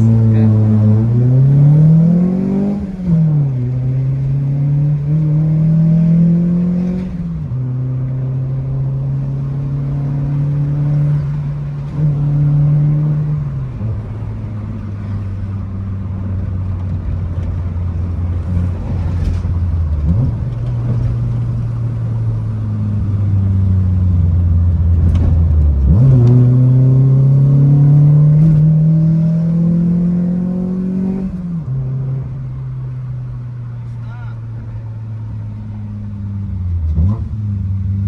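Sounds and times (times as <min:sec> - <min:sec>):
car engine revving while driving: 0:00.0 - 0:38.0.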